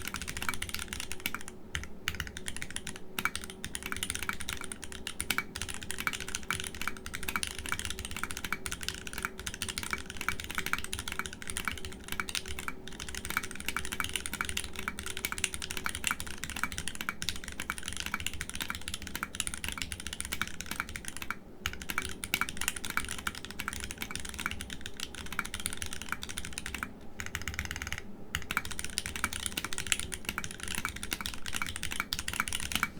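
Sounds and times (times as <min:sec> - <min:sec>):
mechanical keyboard typing: 0:00.0 - 0:32.9.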